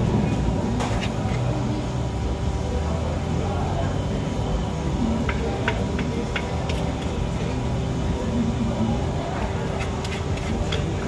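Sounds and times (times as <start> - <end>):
distant chatter: 0.0 - 11.0
low rumble and hum: 0.0 - 11.0.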